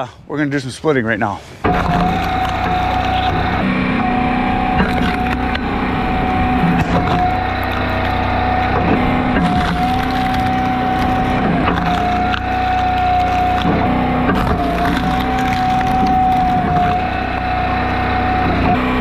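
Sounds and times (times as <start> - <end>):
firewood cracking and splitting: 1.6 - 19.0
log splitter engine whining: 1.6 - 19.0.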